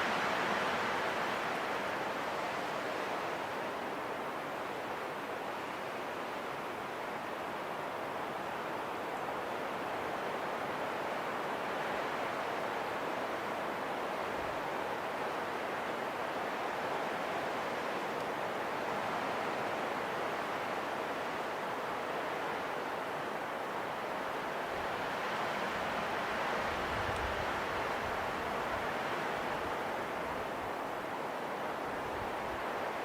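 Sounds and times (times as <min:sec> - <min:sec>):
steady wind: 0:00.0 - 0:33.0.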